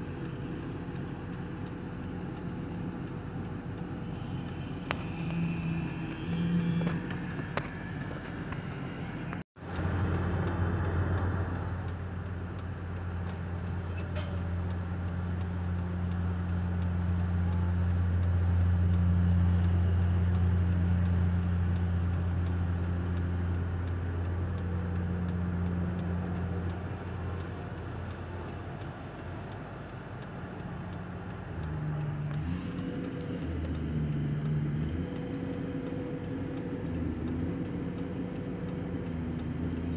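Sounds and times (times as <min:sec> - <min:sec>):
faint ticking: 0:00.0 - 0:06.8, 0:08.6 - 0:39.9
engine running at low pitch: 0:00.0 - 0:39.9.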